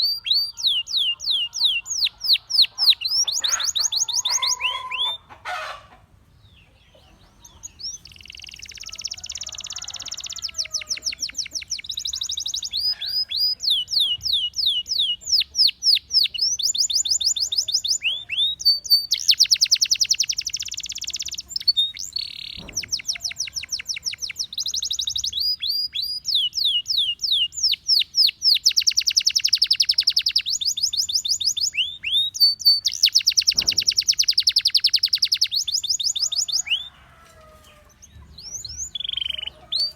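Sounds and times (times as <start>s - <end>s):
canary singing trills: 0.0s - 5.8s, 6.4s - 39.9s.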